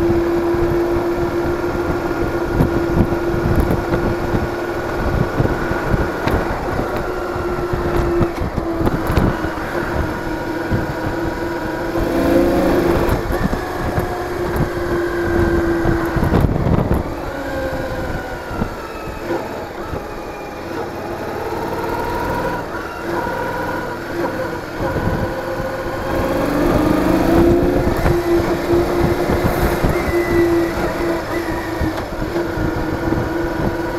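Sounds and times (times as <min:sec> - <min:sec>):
motorcycle engine running: 0:00.0 - 0:33.9
wind rumble on microphone: 0:00.0 - 0:33.9.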